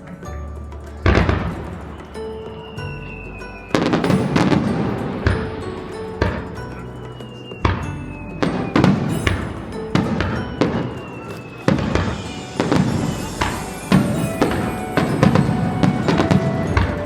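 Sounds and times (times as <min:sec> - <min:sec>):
music playing: 0:00.0 - 0:17.0
fireworks booming: 0:01.0 - 0:17.0.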